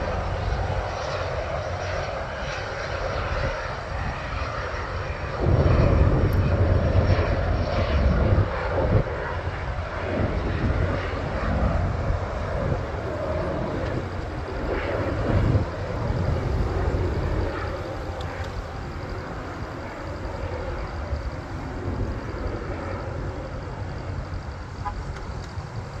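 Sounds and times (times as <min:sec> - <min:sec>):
jet engines at takeoff power: 0:00.0 - 0:26.0.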